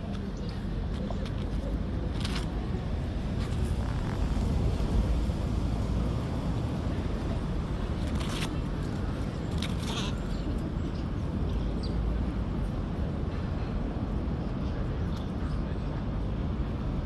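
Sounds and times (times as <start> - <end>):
traffic rumble: 0.0 - 17.0
wind: 0.0 - 17.0.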